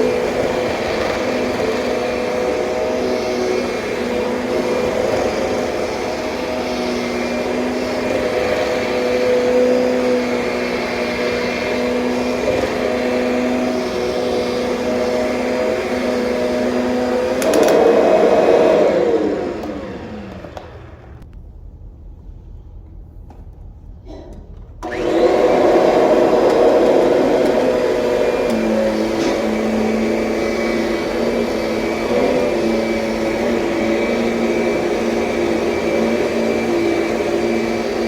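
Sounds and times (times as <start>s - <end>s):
vacuum cleaner running: 0.0s - 21.2s, 24.1s - 38.0s.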